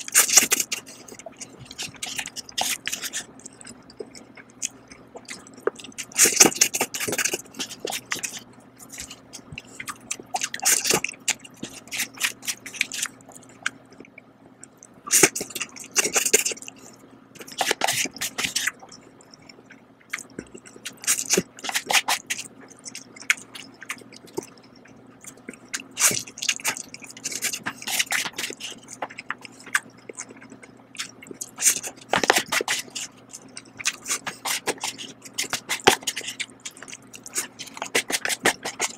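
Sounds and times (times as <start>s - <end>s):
wet chewing: 0.0s - 38.9s.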